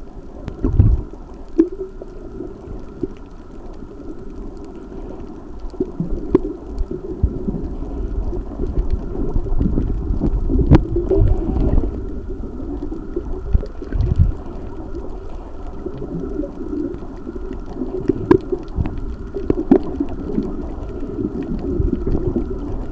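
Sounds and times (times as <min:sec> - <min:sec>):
underwater rumble of moving water: 0:00.0 - 0:22.9.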